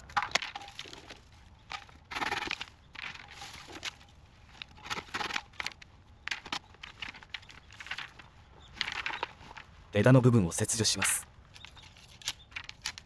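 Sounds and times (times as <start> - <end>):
bamboo rustling and crunching: 0.0 - 9.9, 10.9 - 13.0.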